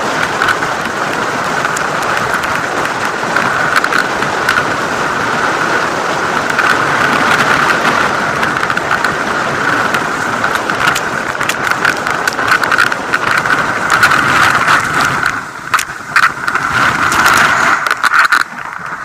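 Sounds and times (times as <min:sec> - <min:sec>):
skis sliding over snow: 0:00.0 - 0:19.0
wind rushing across microphone: 0:00.0 - 0:19.0
sharp clicks and knocks: 0:00.2 - 0:04.8, 0:06.4 - 0:19.0.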